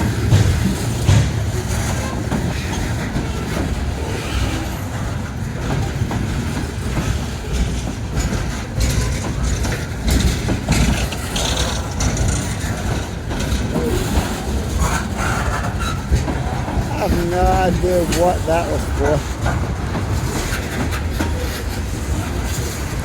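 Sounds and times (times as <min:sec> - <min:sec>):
train wheels rumbling on rails: 0:00.0 - 0:23.0
high-pitched train rattling: 0:00.1 - 0:23.0.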